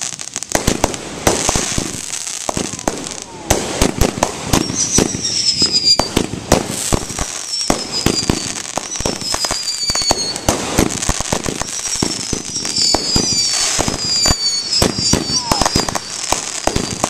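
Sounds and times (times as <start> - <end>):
firework whistles: 0.0 - 17.0
fireworks bangs and pops: 0.0 - 17.0.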